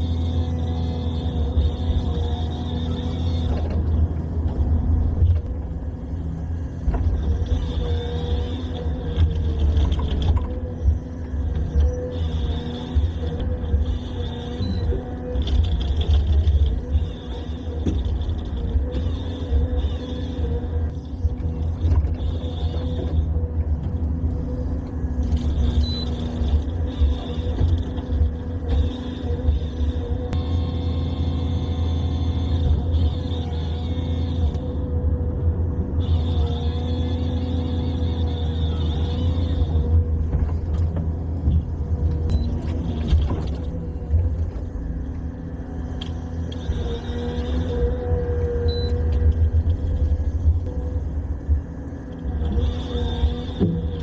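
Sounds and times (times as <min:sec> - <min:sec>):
heavy machine engine rumble: 0:00.0 - 0:54.0.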